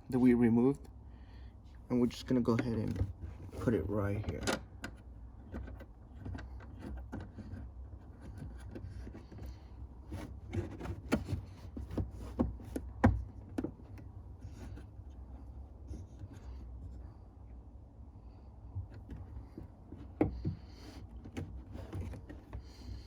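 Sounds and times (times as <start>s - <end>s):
plastic rubbing and scraping: 2.0s - 17.1s, 18.9s - 23.0s.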